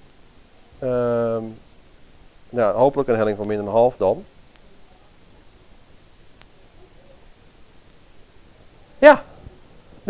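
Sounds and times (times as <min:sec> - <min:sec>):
room hiss: 0:00.0 - 0:10.0.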